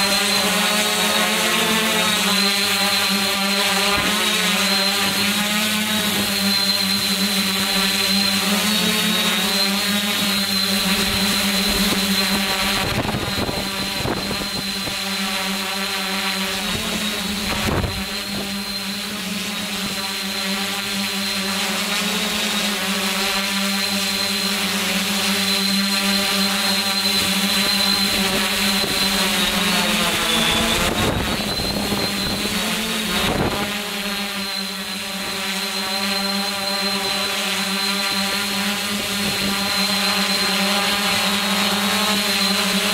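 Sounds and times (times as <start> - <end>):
drone motors humming with whine: 0.0 - 42.9.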